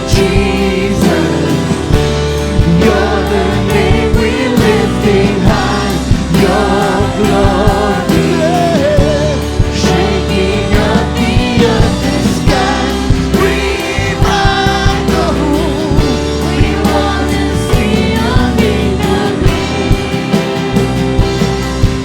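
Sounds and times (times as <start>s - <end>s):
band playing: 0.0s - 22.0s
person singing: 0.0s - 22.0s.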